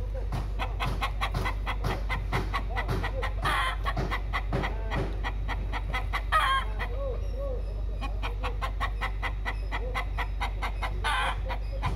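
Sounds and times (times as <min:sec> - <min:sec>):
hen clucking: 0:00.0 - 0:11.9
rooster calling: 0:00.6 - 0:11.9.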